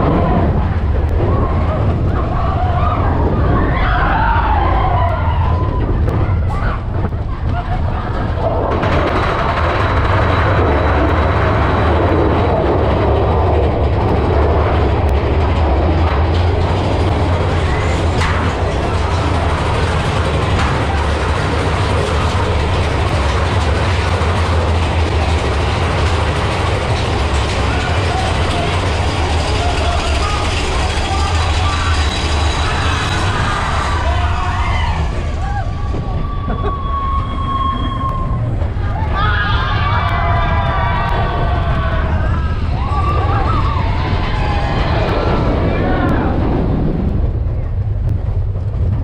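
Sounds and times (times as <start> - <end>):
riders screaming and whooping: 0.0 - 47.6
roller coaster rumbling on track: 0.0 - 49.0.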